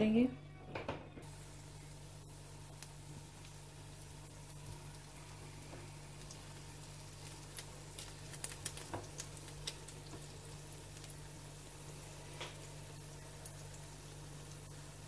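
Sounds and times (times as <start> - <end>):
steady low hum: 0.0 - 15.0
bread sizzling in a pan: 1.2 - 15.0.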